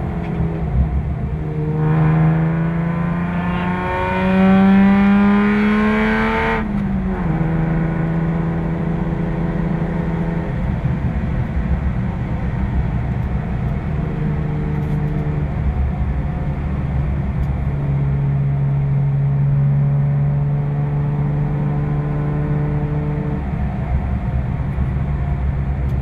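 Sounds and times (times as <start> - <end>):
car engine from inside cabin: 0.0 - 26.0
road and tyre rumble: 0.0 - 26.0.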